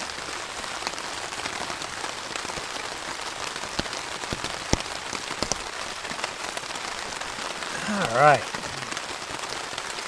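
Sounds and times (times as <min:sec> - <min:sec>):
heavy rain falling: 0:00.0 - 0:10.0
large raindrops striking close: 0:00.0 - 0:10.0.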